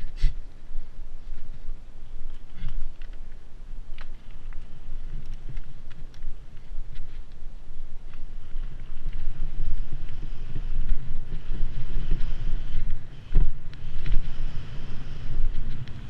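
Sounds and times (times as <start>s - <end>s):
bike tyres rumbling on dirt: 0.0s - 16.0s
wind buffeting microphone: 0.0s - 16.0s.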